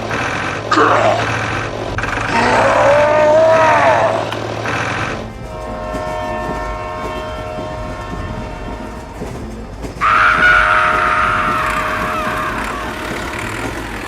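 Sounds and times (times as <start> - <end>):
steady horn-like chord: 0.8 - 14.0.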